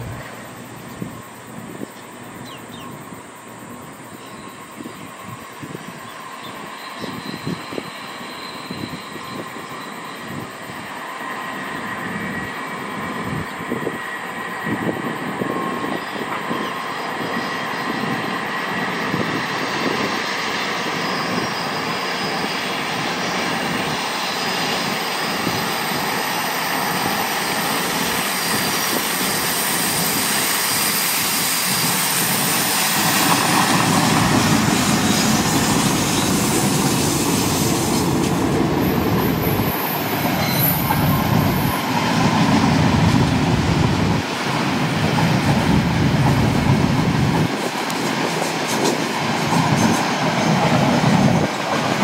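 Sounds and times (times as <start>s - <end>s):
freight train passing: 0.0s - 52.0s.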